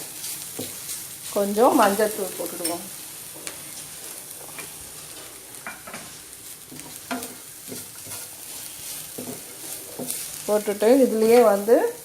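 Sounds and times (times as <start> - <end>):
spatula scraping a pan: 0.0 - 11.7
food sizzling in a pan: 0.0 - 12.0.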